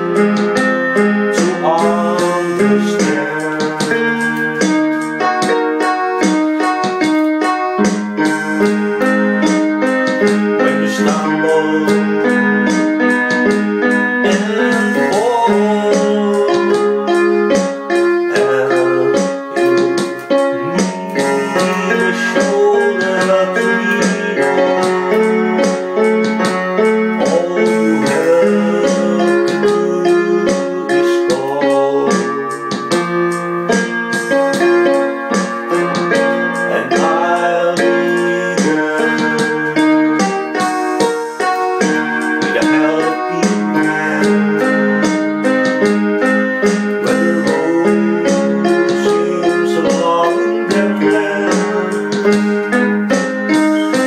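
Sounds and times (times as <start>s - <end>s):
electronic keyboard piano piece: 0.0s - 54.0s.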